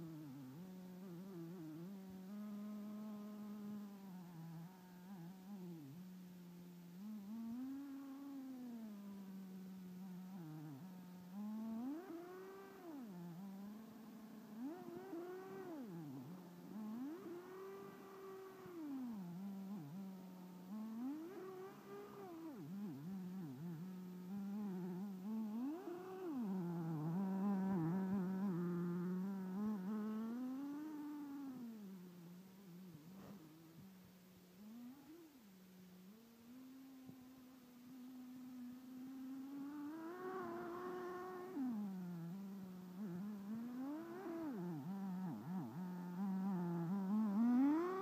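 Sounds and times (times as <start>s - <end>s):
rc car engine revving: 0.0s - 48.0s.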